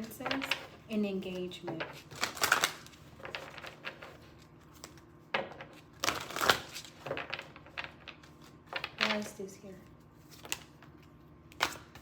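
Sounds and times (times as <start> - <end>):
cards shuffling: 0.0 - 9.2, 10.2 - 12.0.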